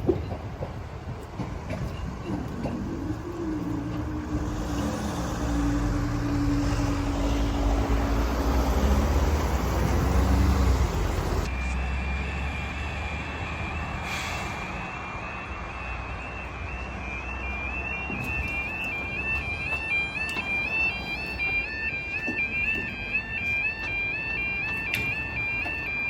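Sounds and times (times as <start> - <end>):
diesel train engine pulling away: 0.0 - 26.0
two-tone alarm: 3.0 - 26.0.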